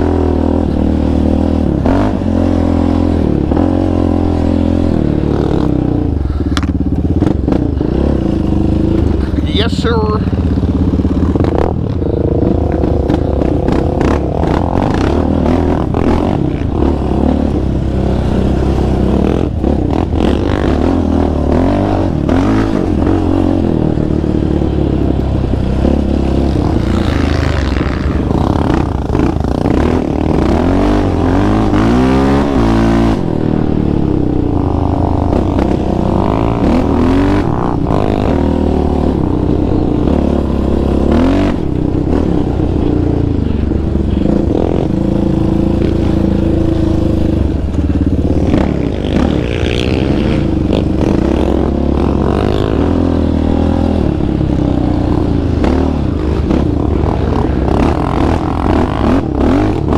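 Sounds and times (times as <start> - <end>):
quad engine under hard throttle: 0.0 - 59.9.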